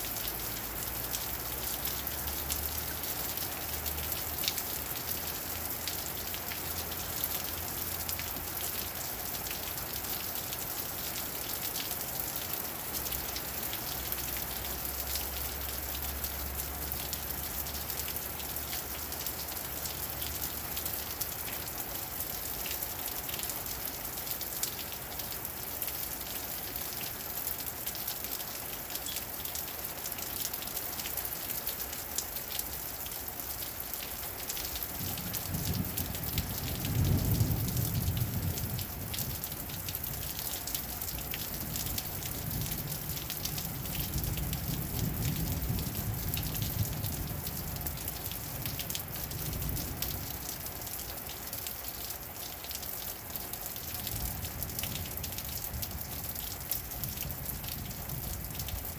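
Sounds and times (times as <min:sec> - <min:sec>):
heavy rain on pavement: 0:00.0 - 0:58.9.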